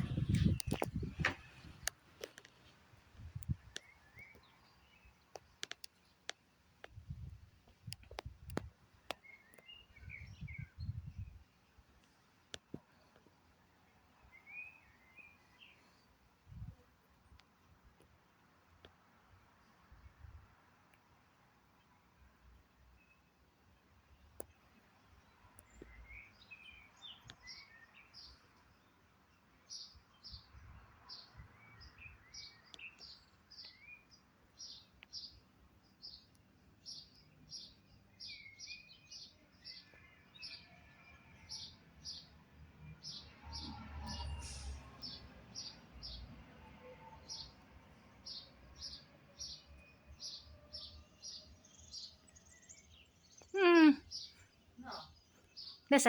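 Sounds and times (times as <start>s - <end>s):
small birds chirping: 0.0s - 19.0s, 21.7s - 46.4s, 47.2s - 56.0s.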